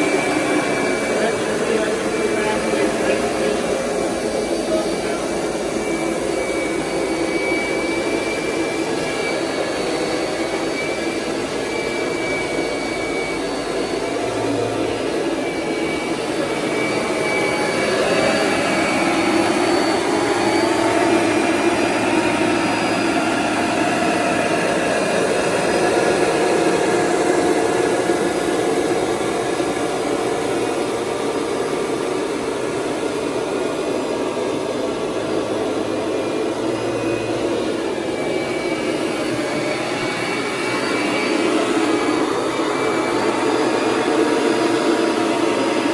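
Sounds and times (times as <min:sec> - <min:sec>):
upright vacuum cleaner running: 0:00.0 - 0:45.9.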